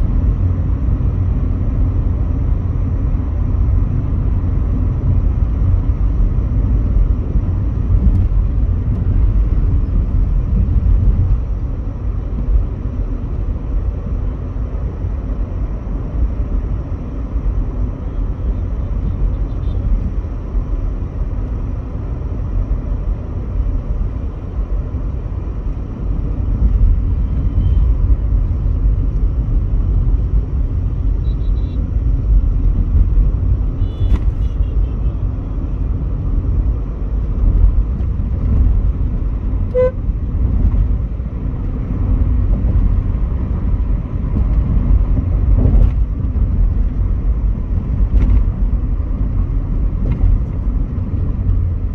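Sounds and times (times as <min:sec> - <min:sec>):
car engine and tyre rumble: 0:00.0 - 0:51.9.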